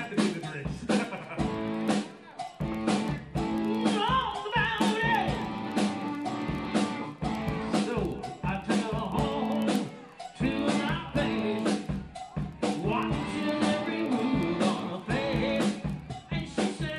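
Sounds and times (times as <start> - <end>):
band playing live: 0.0 - 16.9
guitar: 0.0 - 16.9
steady drum beat: 0.0 - 16.9.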